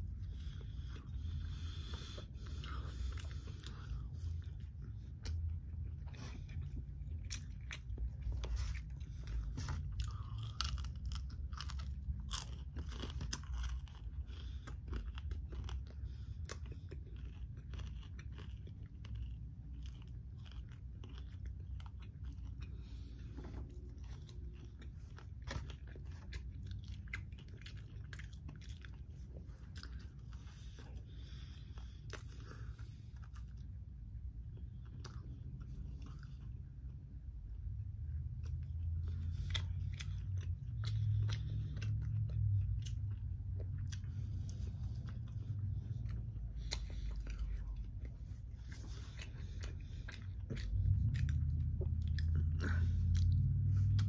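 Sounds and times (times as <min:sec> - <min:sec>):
chewing fried chicken: 0:00.0 - 0:54.0.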